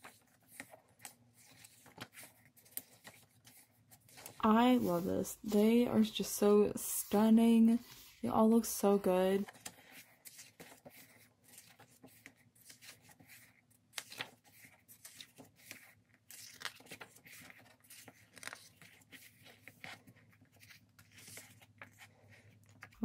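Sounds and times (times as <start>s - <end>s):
paper pages rustling and turning: 0.0s - 8.2s, 8.9s - 23.0s.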